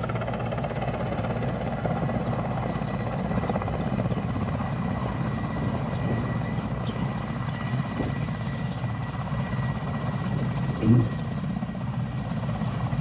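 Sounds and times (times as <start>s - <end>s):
helicopter rotor chopping: 0.0s - 13.0s
high turbine whine: 0.0s - 13.0s.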